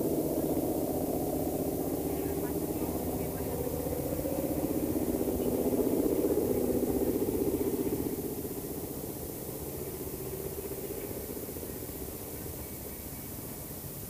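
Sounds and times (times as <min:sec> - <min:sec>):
aeroplane engine drone: 0:00.0 - 0:14.0.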